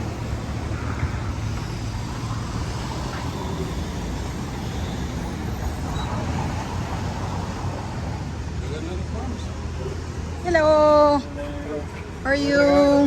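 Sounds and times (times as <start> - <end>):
engine rumble with road noise: 0.0 - 13.0.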